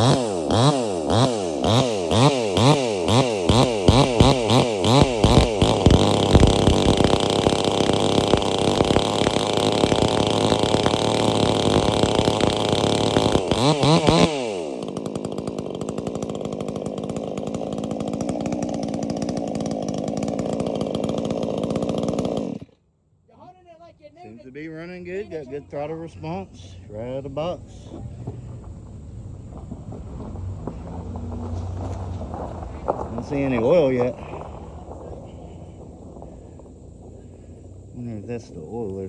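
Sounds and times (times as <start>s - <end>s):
chainsaw engine revving and idling: 0.0s - 22.8s, 24.3s - 39.0s.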